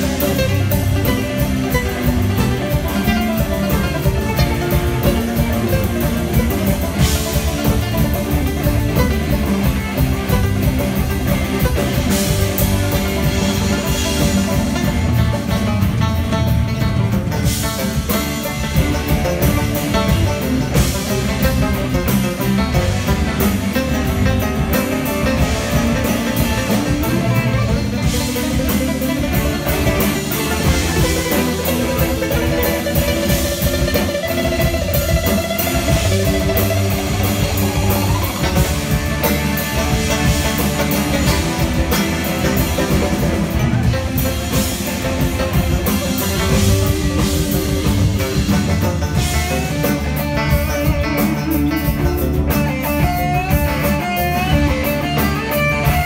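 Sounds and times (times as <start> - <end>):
bass guitar: 0.0 - 56.0
drum kit: 0.0 - 56.0
electric guitar: 0.0 - 56.0
electric mandolin: 0.0 - 56.0.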